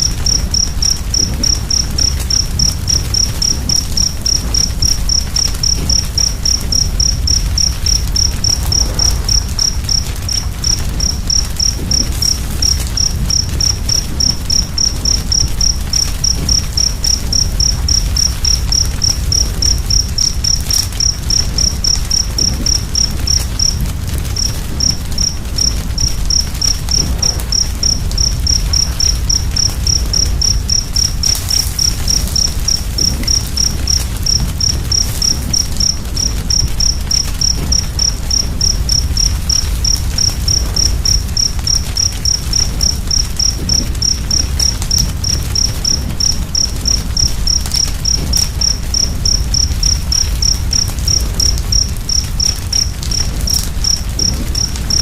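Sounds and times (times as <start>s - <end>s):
cricket chirping: 0.0s - 55.0s
wood fire crackling: 0.0s - 55.0s.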